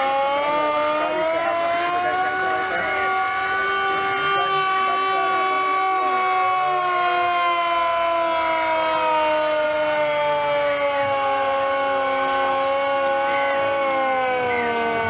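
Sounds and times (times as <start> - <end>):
air raid siren wailing: 0.0 - 15.0.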